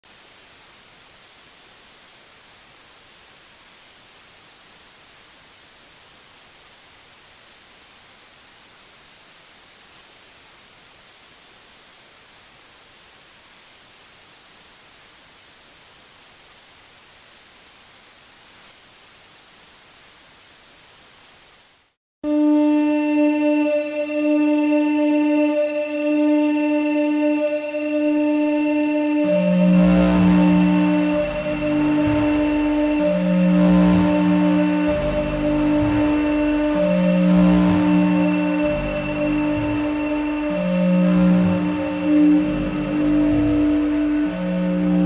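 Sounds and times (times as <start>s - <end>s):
static hiss: 0.0s - 45.0s.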